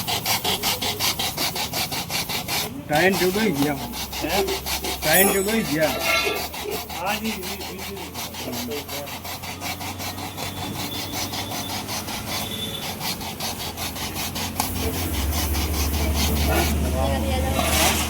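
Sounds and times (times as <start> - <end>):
rasp strokes on rubber: 0.0 - 18.0.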